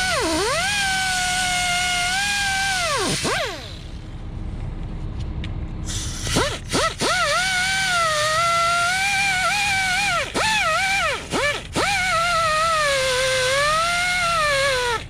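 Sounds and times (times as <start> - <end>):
wire wheel grinder whining: 0.0 - 4.1, 5.9 - 15.0.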